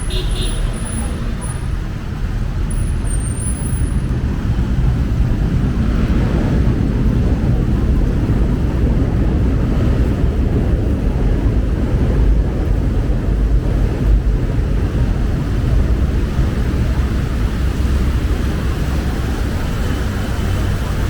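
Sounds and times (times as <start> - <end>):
road traffic: 0.0 - 21.0
wind buffeting microphone: 0.0 - 21.0.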